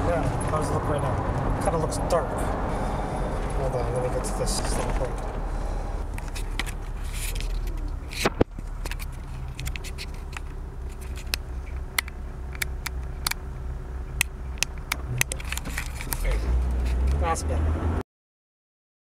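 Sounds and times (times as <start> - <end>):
car engine low hum: 0.0 - 18.0.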